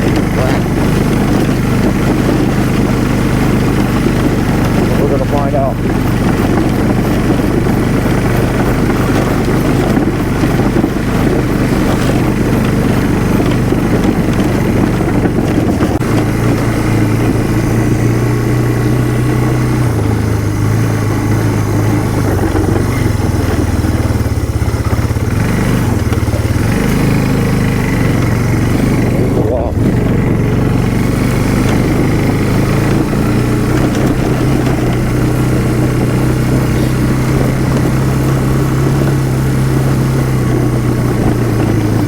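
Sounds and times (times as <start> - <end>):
small vehicle engine running: 0.0 - 42.0.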